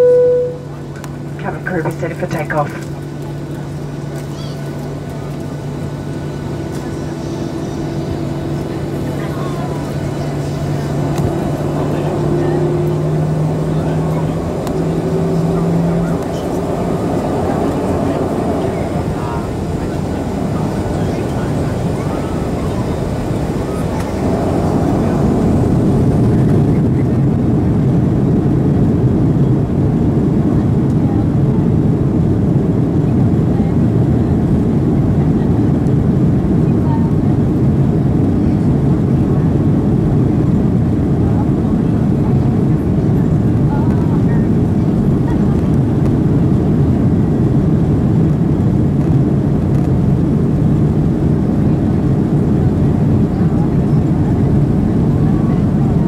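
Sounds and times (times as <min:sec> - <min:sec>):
jet engines deep rumble: 0:00.0 - 0:56.0.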